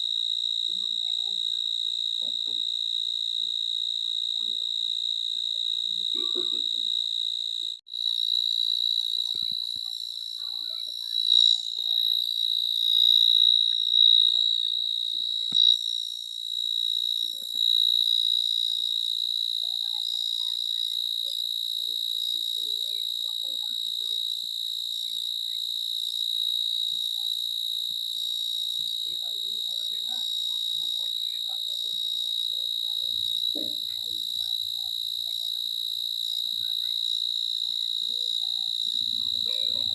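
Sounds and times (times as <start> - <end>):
insect trilling: 0.0 - 39.9.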